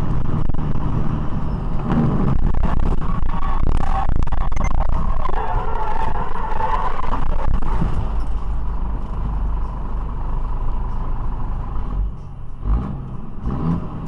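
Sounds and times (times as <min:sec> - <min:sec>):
vehicle engine and tyres rumbling: 0:00.0 - 0:14.0.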